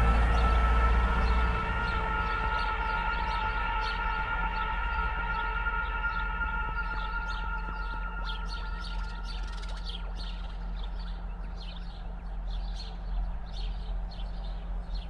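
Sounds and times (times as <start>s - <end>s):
held chord of steady tones: 0.0s - 15.0s
low steady hum: 0.0s - 15.0s
small birds chirping: 2.6s - 15.0s.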